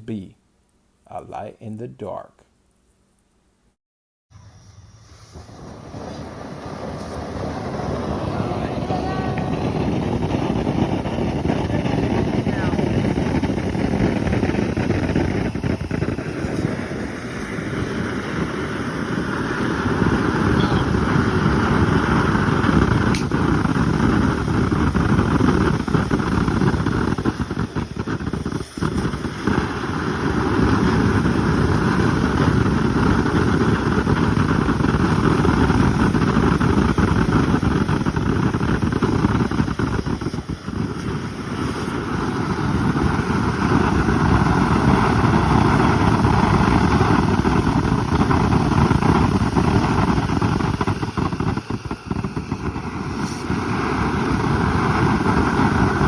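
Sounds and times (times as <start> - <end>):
fountain fireworks roaring: 4.3 - 56.0.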